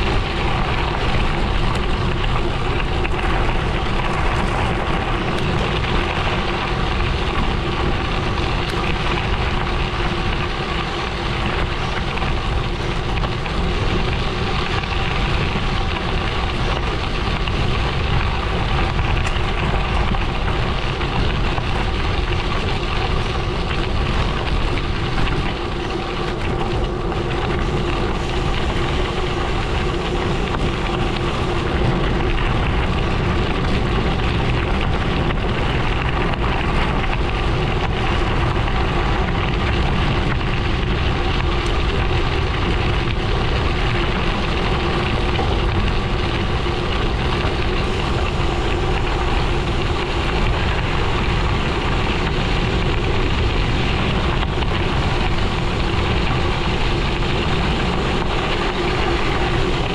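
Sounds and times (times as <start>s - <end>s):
bike tyres rolling on gravel: 0.0s - 59.9s.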